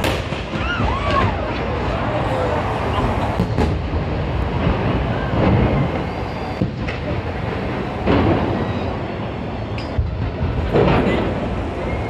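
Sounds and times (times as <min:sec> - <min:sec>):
sharp firework bangs: 0:00.0 - 0:02.1, 0:02.9 - 0:12.0
fireworks explosions rumbling: 0:00.0 - 0:12.0.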